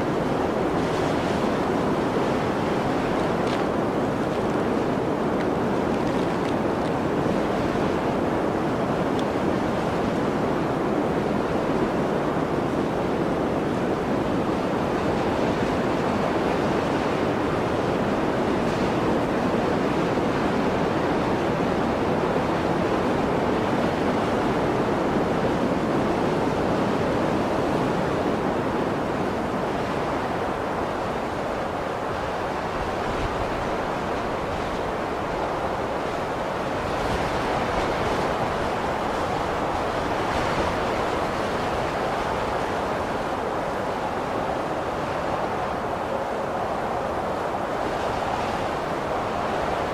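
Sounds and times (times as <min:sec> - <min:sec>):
blizzard wind blowing: 0:00.0 - 0:49.9.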